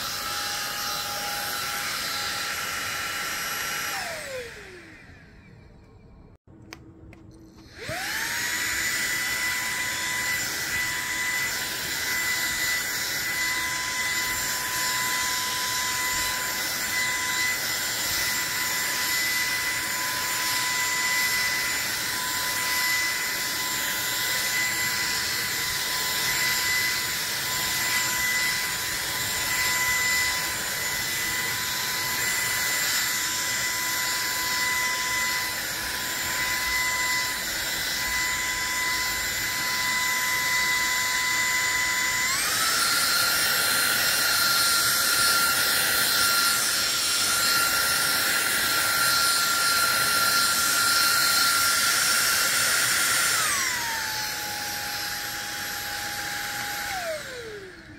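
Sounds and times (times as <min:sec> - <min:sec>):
stick vacuum motor whine: 0:00.0 - 0:57.9.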